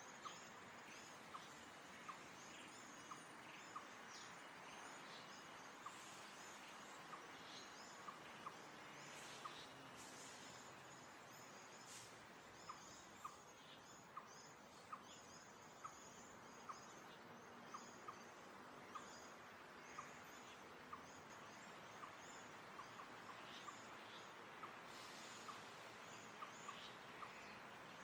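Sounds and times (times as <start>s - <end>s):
birds chirping and twittering: 0.0s - 28.0s.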